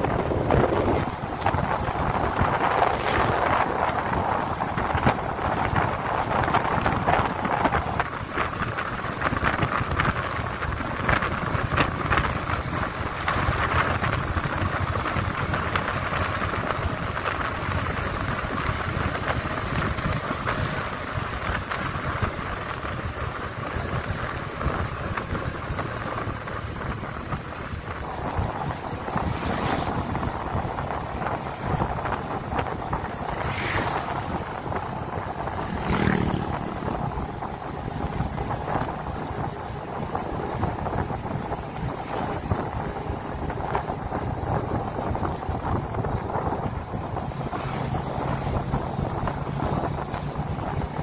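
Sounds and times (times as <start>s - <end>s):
road noise: 0.0s - 51.0s
wind buffeting microphone: 0.0s - 51.0s.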